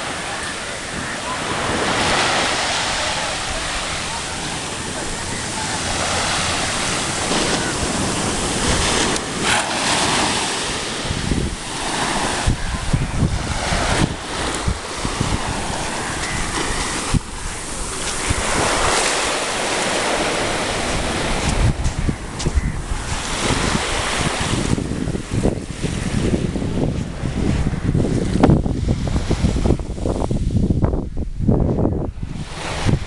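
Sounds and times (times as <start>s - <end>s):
waves washing up a beach: 0.0s - 33.0s
wind buffeting the microphone: 0.0s - 33.0s.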